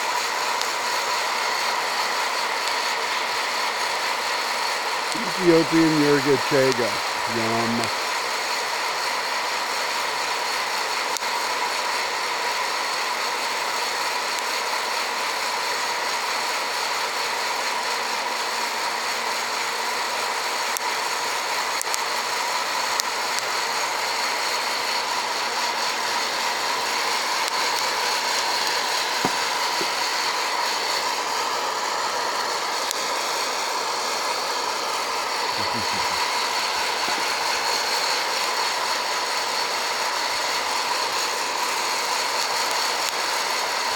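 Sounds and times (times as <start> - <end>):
coffee roaster fan whir: 0.0 - 43.9.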